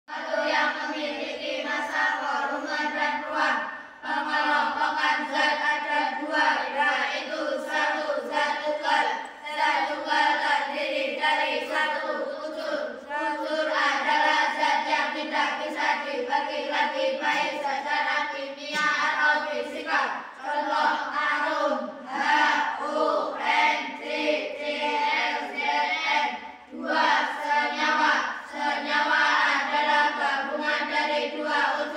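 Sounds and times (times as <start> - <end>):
children chanting in unison: 0.1 - 31.9.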